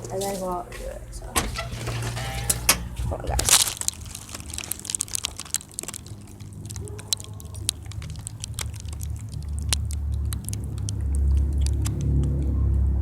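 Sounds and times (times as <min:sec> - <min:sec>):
microphone handling clicks and rustles: 0:00.0 - 0:12.4
low rumble: 0:00.0 - 0:13.0.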